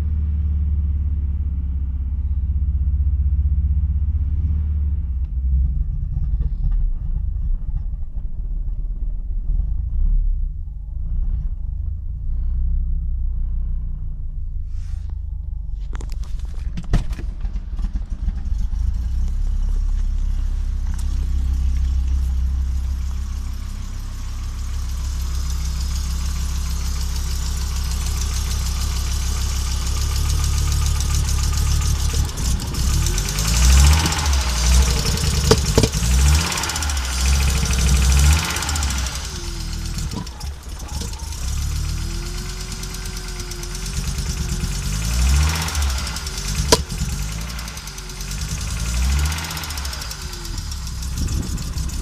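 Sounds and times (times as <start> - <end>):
car engine misfiring and revving: 0.0 - 52.0.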